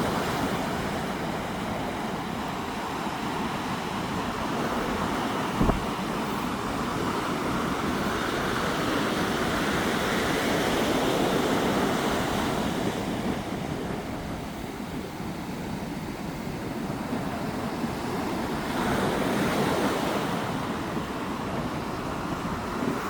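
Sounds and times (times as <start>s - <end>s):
ocean surf washing ashore: 0.0s - 23.0s
wind blowing on microphone: 0.0s - 23.0s.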